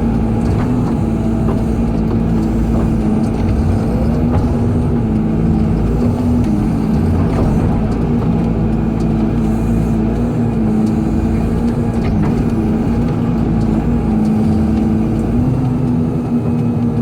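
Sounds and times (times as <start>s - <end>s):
excavator diesel engine droning: 0.0s - 17.0s
faint clicks: 0.0s - 17.0s.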